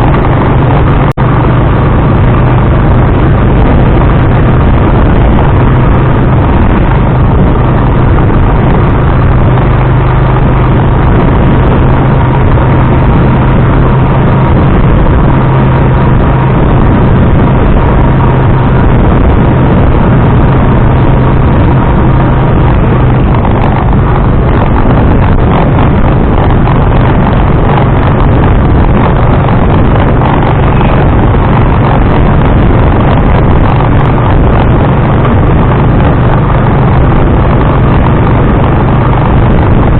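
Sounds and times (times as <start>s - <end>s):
motorized tricycle engine rumble: 0.0s - 39.9s.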